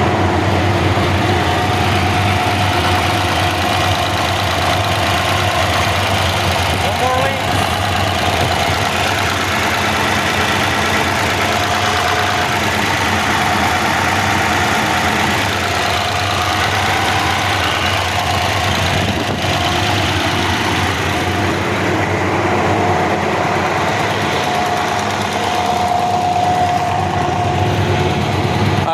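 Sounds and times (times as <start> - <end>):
diesel tractor engine idling: 0.0 - 28.9.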